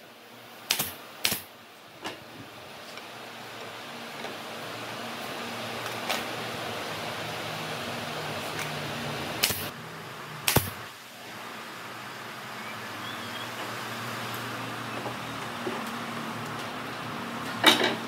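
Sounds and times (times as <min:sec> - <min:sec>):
low workshop hum: 0:00.0 - 0:18.0.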